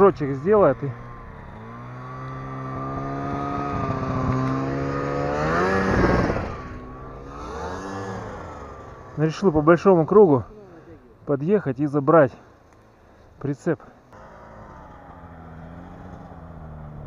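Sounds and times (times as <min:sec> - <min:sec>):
snowmobile engine passing by: 0:00.0 - 0:11.0, 0:14.0 - 0:17.0.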